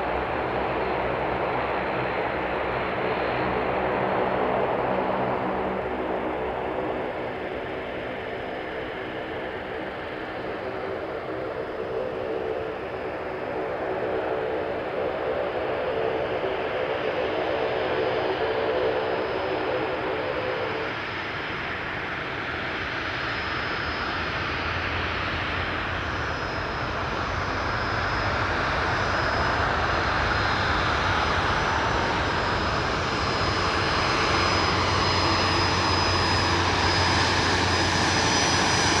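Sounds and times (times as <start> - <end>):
jet engine rush with high whine: 0.0 - 39.0.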